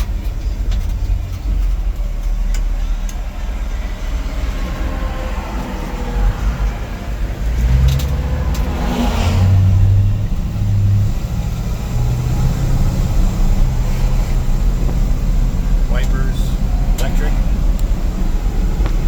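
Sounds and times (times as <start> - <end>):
pickup truck engine accelerating: 0.0 - 19.0.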